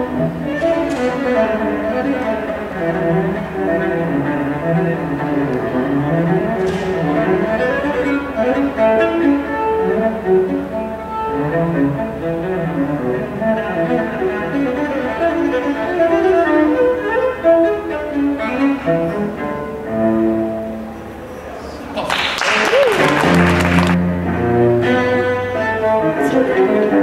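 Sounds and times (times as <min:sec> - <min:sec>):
cello bowed notes: 0:00.0 - 0:21.6, 0:23.0 - 0:27.0.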